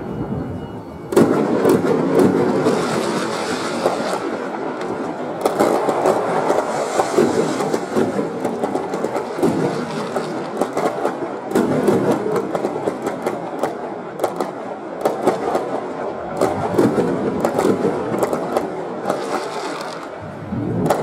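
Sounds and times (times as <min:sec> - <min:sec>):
slowed fireworks rumble: 0:00.0 - 0:21.0
fireworks cracks: 0:01.1 - 0:21.0.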